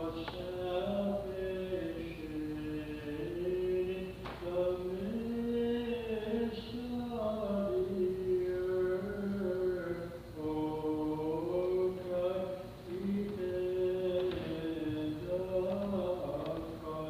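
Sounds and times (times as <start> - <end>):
voices singing liturgical chant: 0.0 - 17.0.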